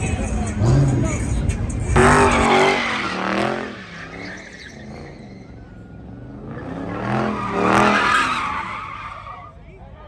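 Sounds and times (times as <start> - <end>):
car engine revving: 0.0 - 9.3
tires squealing on pavement: 0.5 - 9.7.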